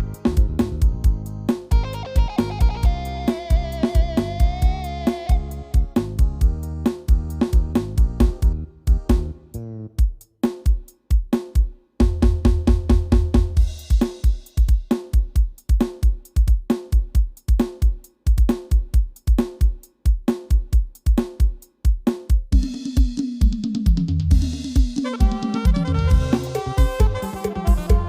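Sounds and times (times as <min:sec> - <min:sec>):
drum-heavy music with bass: 0:00.0 - 0:28.0.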